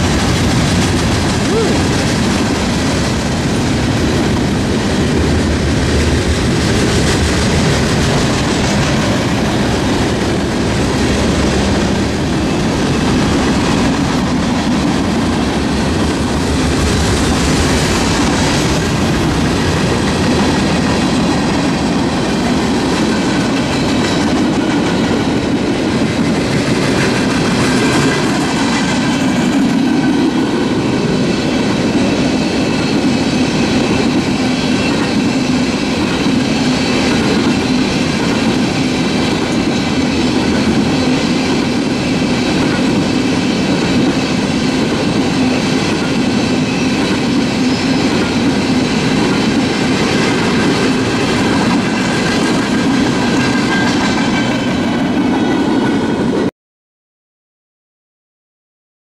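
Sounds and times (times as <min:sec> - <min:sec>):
freight train rumbling past: 0:00.0 - 0:56.5.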